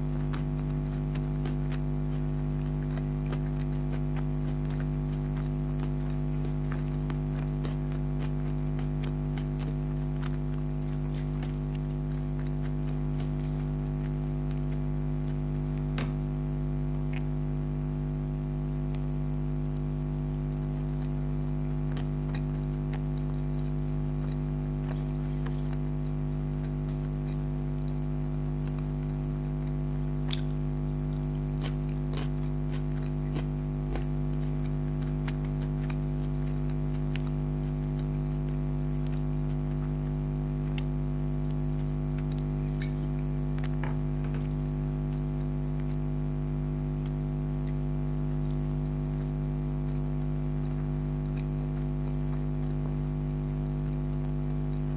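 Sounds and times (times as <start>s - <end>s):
chewing and biting: 0.0s - 54.9s
mouth clicks and smacks: 0.0s - 54.9s
steady loud hum: 0.0s - 54.9s.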